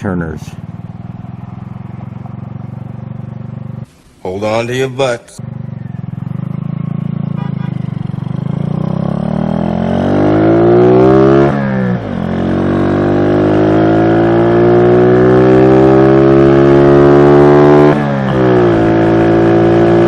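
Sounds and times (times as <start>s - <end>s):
motorbike engine accelerating: 0.0s - 20.0s.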